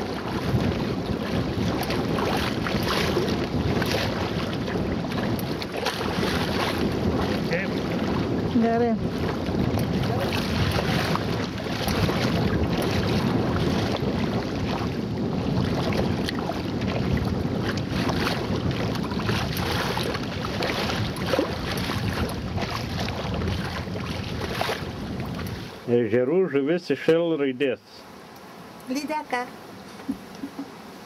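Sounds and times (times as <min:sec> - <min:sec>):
water splashing against kayak: 0:00.0 - 0:25.9
wind buffeting microphone: 0:00.0 - 0:26.2.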